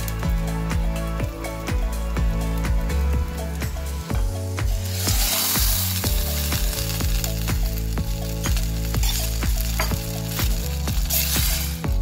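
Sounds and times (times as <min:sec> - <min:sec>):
background music with steady beat: 0:00.0 - 0:12.0
chickpeas sizzling in hot fat: 0:00.0 - 0:12.0.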